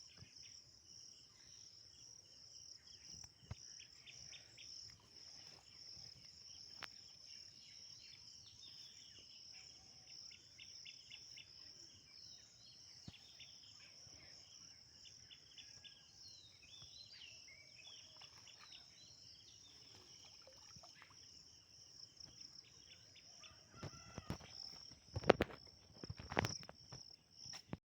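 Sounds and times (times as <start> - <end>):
insects chirring: 0.0 - 27.8.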